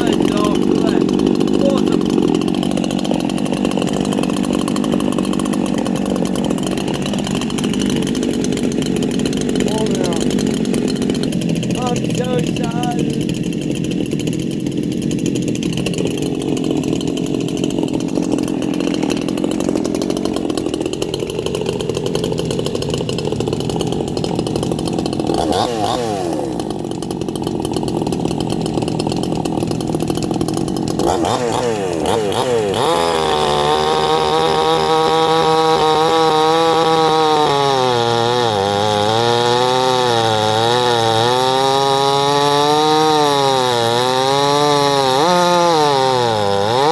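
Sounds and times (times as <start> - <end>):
chainsaw engine running hard: 0.0 - 46.9.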